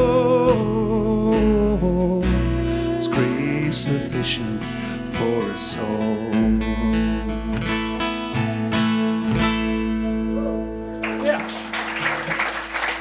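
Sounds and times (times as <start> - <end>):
plucked upright bass: 0.0 - 10.9
strummed acoustic guitar: 0.0 - 11.0.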